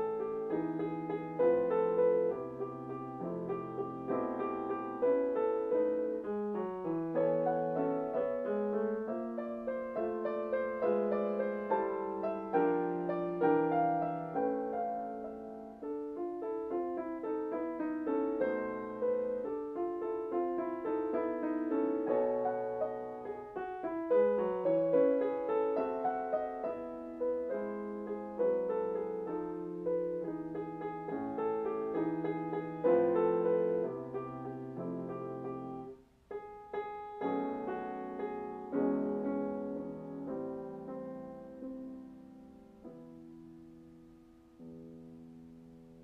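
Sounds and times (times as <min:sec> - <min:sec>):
solo piano piece: 0:00.0 - 0:46.0.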